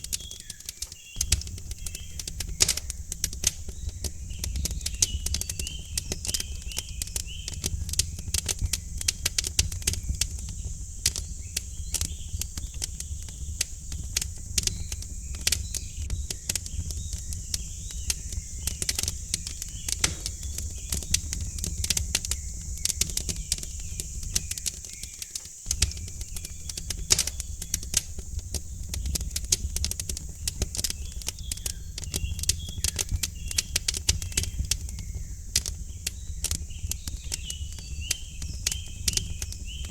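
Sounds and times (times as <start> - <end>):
birds chirping: 0.0 - 39.9
wood fire crackling: 0.0 - 39.9.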